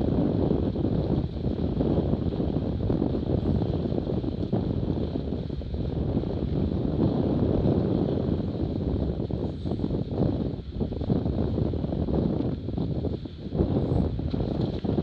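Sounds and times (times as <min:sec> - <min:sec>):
boat hull rushing through water: 0:00.0 - 0:15.0
wind buffeting microphone: 0:00.0 - 0:15.0.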